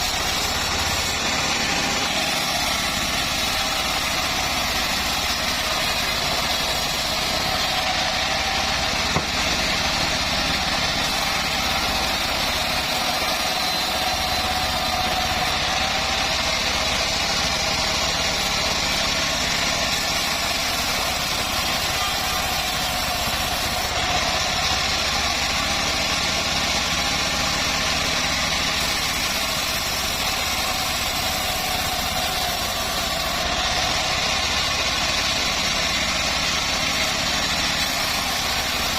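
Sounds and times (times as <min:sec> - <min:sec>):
bandsaw mill engine drone: 0:00.0 - 0:38.9.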